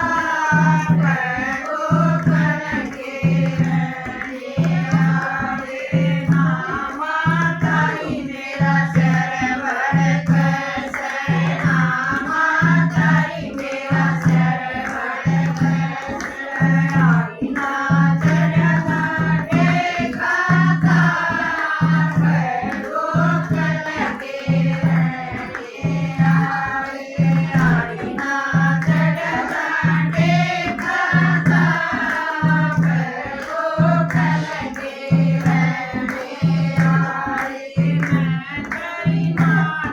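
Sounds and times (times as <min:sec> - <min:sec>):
group singing devotional song: 0:00.0 - 0:39.9.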